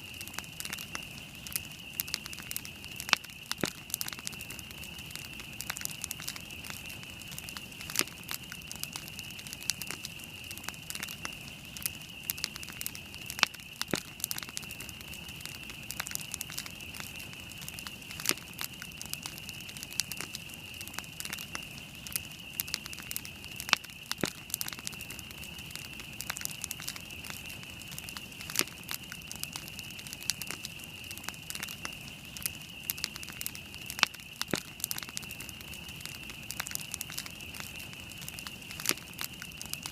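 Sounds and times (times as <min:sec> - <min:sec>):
campfire crackling: 0:00.0 - 0:39.9
fire pops and snaps: 0:00.0 - 0:39.9.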